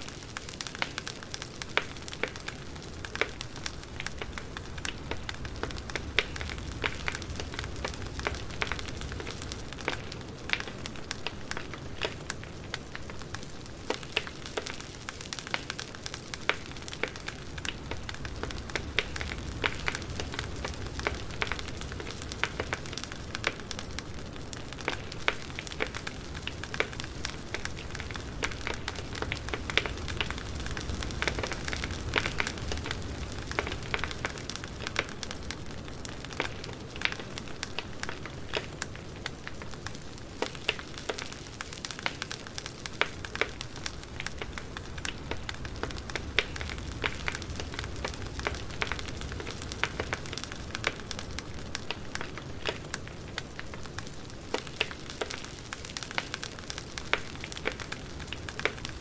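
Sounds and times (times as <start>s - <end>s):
campfire popping and crackling: 0.0s - 59.0s
low rumble of flames: 0.0s - 59.0s.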